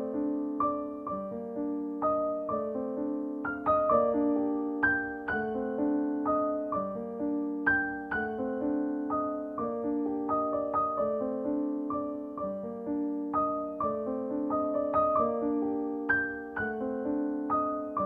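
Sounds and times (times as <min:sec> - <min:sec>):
gentle piano tune: 0:00.0 - 0:18.0.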